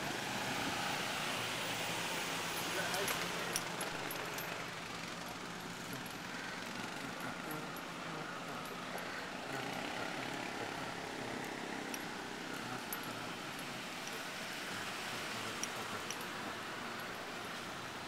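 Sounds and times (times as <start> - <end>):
motor vehicles running: 0.0 - 18.0
road noise: 0.0 - 18.0.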